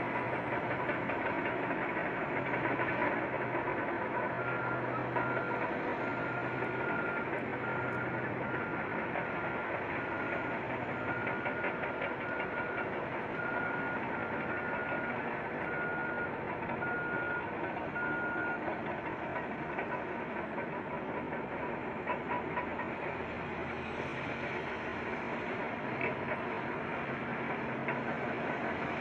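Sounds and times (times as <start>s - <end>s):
diesel machinery working: 0.0s - 29.0s.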